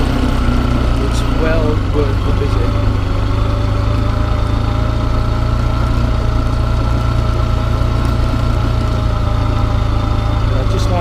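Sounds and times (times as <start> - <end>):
small motorcycle engine humming: 0.0 - 11.0.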